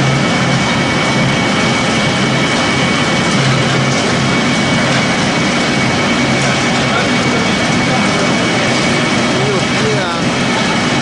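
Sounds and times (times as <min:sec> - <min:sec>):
pellet mill running with whine: 0:00.0 - 0:11.0.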